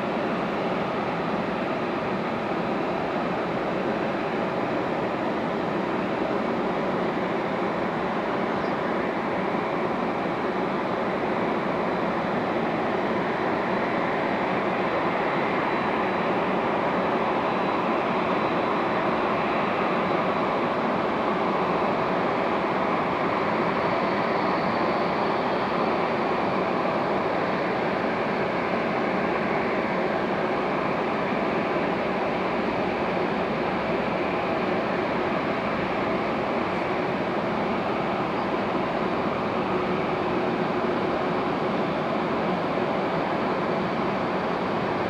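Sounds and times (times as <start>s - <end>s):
jet engines idling: 0.0s - 45.0s.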